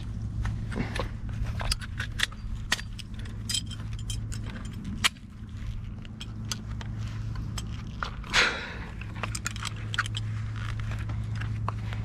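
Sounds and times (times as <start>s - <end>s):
holster clicks and rattles: 0.0s - 12.0s.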